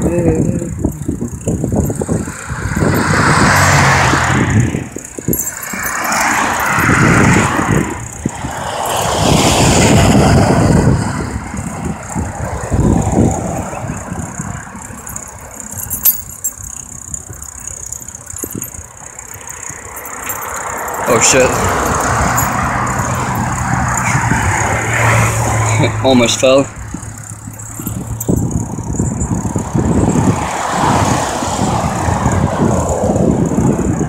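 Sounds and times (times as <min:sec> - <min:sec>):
road traffic noise: 0:00.0 - 0:34.0
rushing wind: 0:00.0 - 0:34.0.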